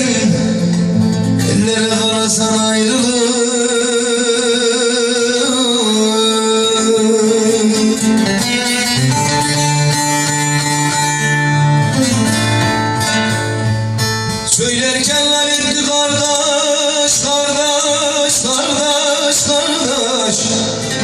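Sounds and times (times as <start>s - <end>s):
acoustic guitar: 0.0s - 21.0s
plucked lute: 0.0s - 21.0s.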